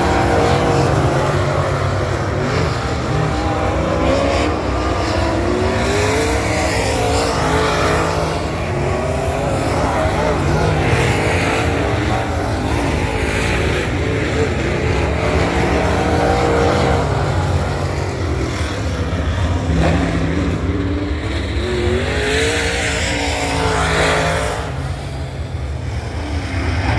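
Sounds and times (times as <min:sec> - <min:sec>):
race car engines passing: 0:00.0 - 0:26.9.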